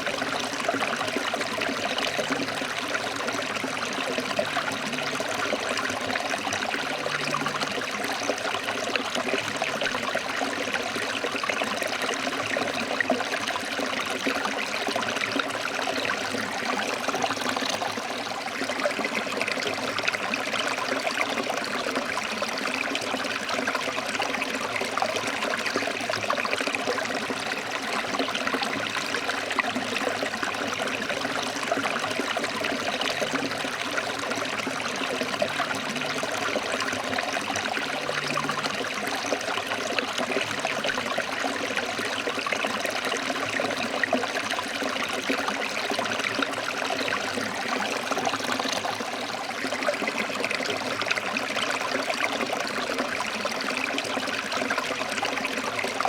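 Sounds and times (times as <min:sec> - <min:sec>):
stream water splashing over rocks: 0:00.0 - 0:56.0.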